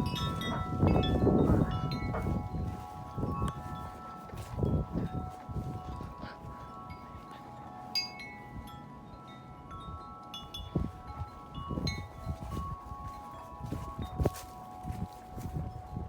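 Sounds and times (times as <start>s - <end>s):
wind buffeting microphone: 0.0s - 16.0s
wind chime ringing: 0.0s - 16.0s.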